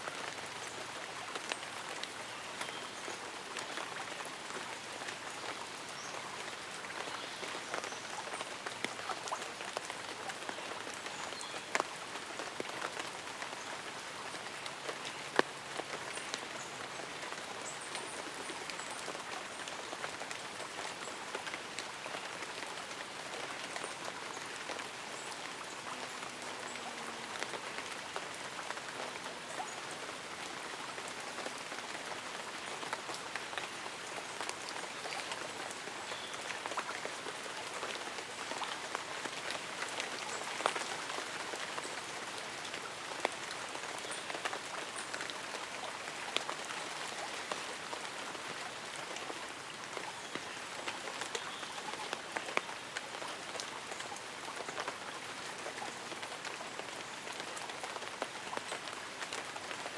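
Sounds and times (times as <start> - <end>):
light rain on leaves and umbrella: 0.0 - 59.9.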